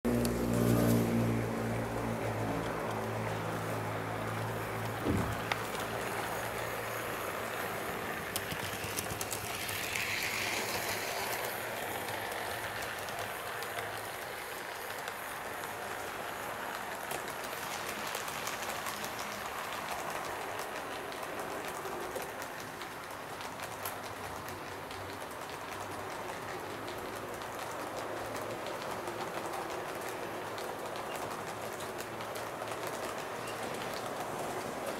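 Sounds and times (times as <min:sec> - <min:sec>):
model train running on track: 0:00.1 - 0:34.9.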